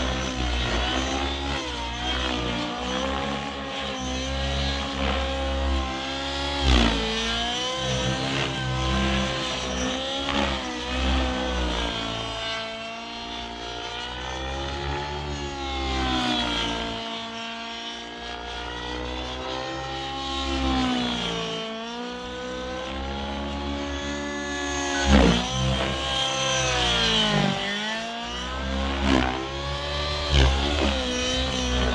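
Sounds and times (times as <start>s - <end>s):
model helicopter engine and rotor: 0.0s - 31.9s.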